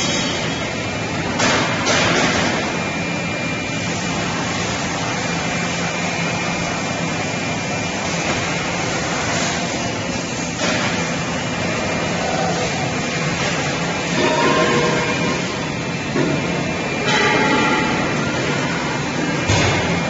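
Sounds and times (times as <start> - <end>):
welding machine hum and hiss: 0.0 - 20.0.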